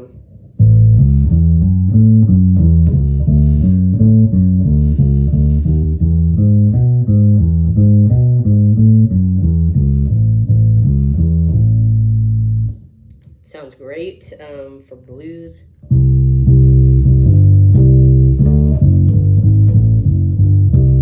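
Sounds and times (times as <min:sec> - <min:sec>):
electric bass plucked notes: 0:00.0 - 0:13.2, 0:15.8 - 0:21.0.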